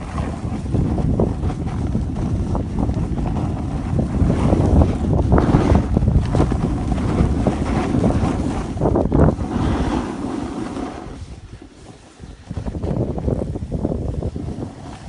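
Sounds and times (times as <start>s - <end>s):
edges scraping over hard snow: 0.0s - 15.0s
wind buffeting microphone: 0.0s - 15.0s.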